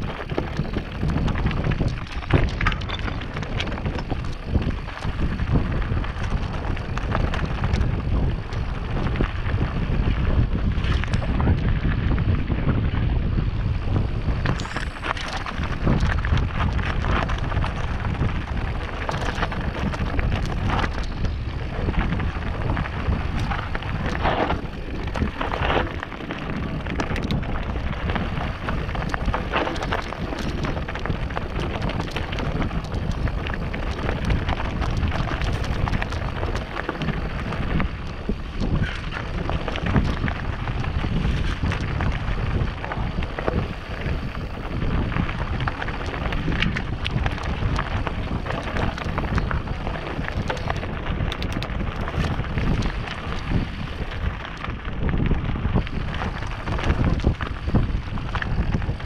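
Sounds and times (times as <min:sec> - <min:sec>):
tyres over loose stones: 0:00.0 - 0:12.3, 0:14.0 - 0:59.0
bike rattling: 0:00.0 - 0:59.0
wind on microphone: 0:00.0 - 0:59.0.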